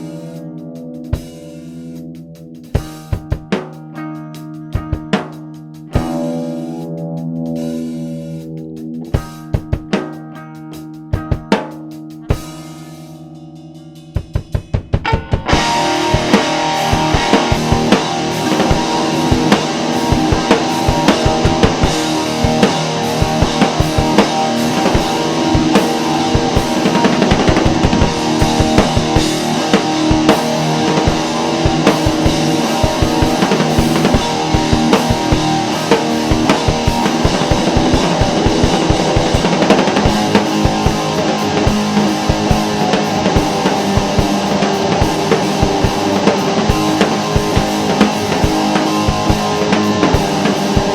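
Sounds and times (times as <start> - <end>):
drums fast steady beat: 0.0 - 50.9
rock band playing: 0.0 - 50.9.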